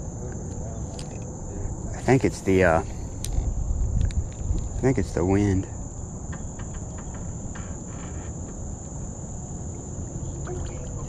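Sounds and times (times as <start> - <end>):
crickets trilling: 0.0 - 11.0
wind rumble on microphone: 0.0 - 11.0.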